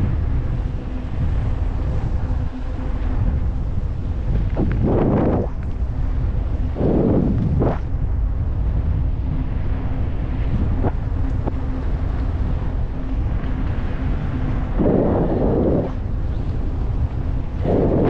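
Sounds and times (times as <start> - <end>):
faint steady hum: 0.0 - 18.0
wind buffeting microphone: 0.0 - 18.0.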